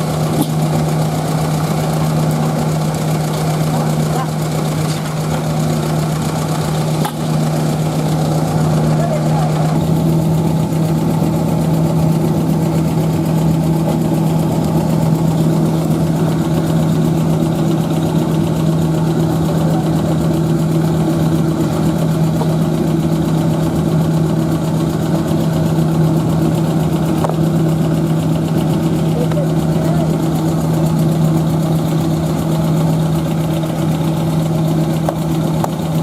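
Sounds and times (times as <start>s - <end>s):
machinery droning: 0.0s - 36.0s.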